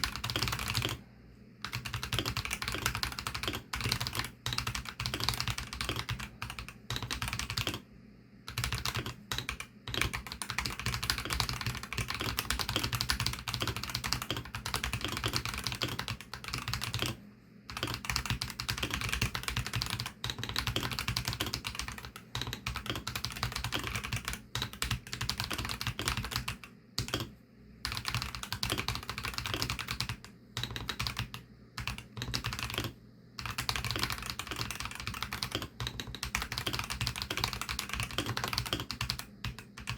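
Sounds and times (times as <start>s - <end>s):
fast typing on mechanical keyboard: 0.0s - 1.0s, 1.6s - 7.8s, 8.5s - 39.9s.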